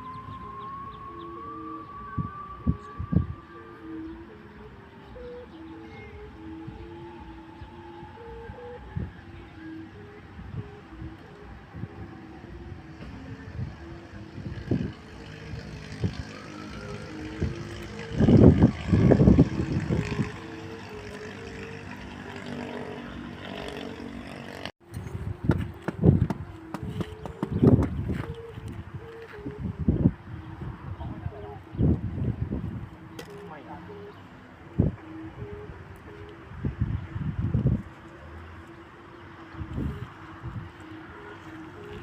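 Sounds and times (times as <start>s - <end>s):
higher steady tone: 0.0s - 42.0s
kite hummers droning: 0.0s - 42.0s
wind rumble: 0.0s - 42.0s.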